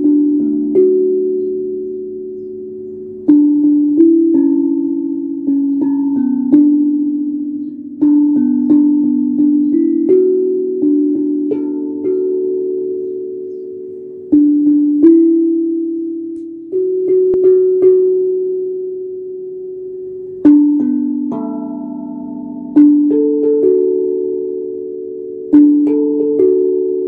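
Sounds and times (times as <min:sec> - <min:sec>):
steel tongue drum melody: 0:00.0 - 0:27.0.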